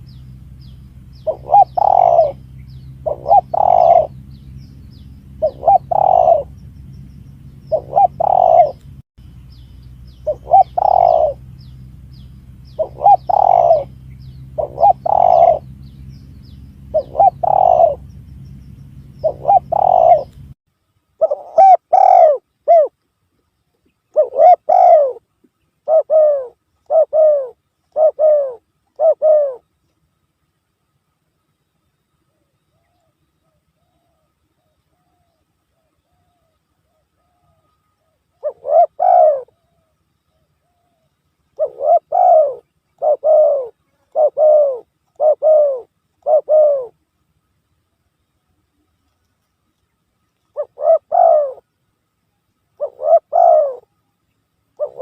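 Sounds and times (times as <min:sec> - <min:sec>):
dove cooing: 0:00.0 - 0:09.0, 0:10.1 - 0:20.6, 0:21.2 - 0:23.0, 0:24.1 - 0:29.7, 0:32.3 - 0:47.0, 0:50.5 - 0:51.7, 0:52.8 - 0:54.0, 0:54.8 - 0:55.0
low hum: 0:00.0 - 0:55.0.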